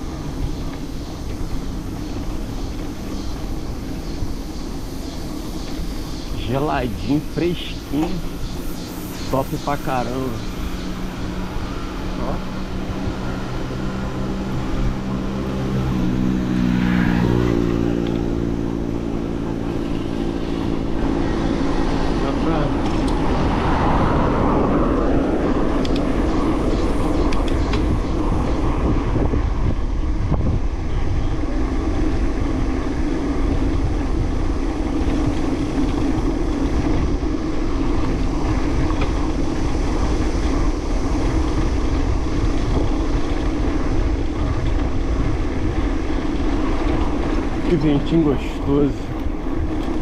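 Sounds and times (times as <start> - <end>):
bike rolling rumble: 0.0 - 50.0
wind rushing over microphone: 0.0 - 50.0.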